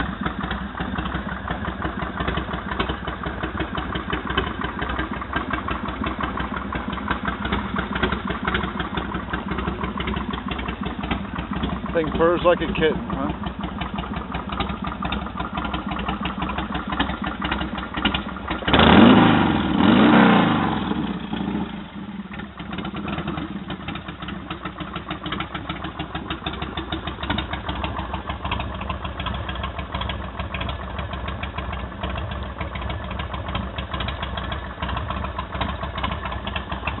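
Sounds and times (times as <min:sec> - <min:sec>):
motorcycle engine idling and revving: 0:00.0 - 0:37.0.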